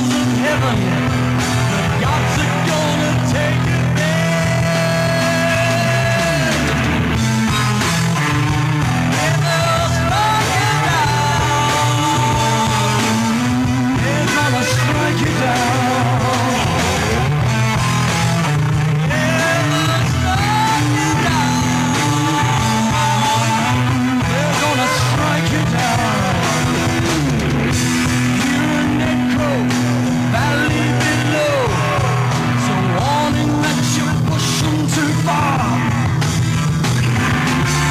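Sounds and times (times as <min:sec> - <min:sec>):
man singing: 0:00.0 - 0:18.4, 0:19.0 - 0:36.2
drums: 0:00.0 - 0:37.9
electric guitar: 0:00.0 - 0:37.9.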